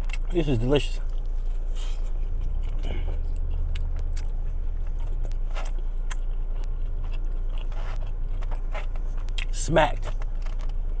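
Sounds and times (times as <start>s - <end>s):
biting and chewing food: 0.0s - 11.0s
steady low hum: 0.0s - 11.0s.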